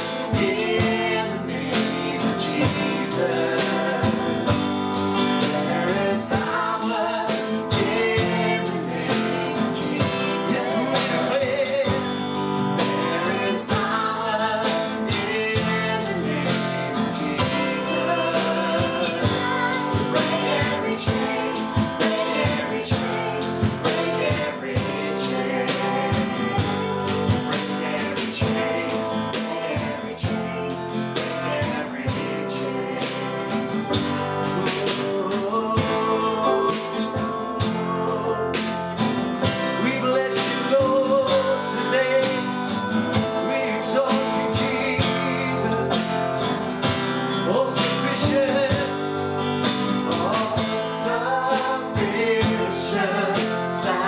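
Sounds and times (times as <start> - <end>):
congregation singing: 0.0 - 54.0
guitar: 0.0 - 54.0.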